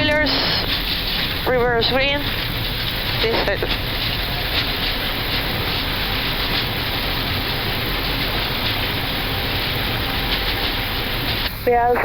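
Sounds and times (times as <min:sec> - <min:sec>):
jet engines in reverse thrust: 0:00.0 - 0:12.0
low runway rumble: 0:00.0 - 0:12.0.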